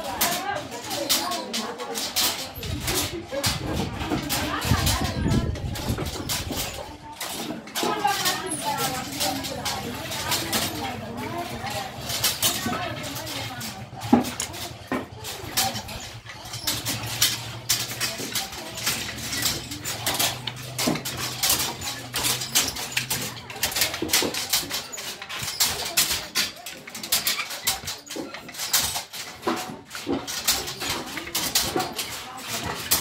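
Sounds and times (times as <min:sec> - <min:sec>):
hand looms clacking: 0:00.0 - 0:33.0.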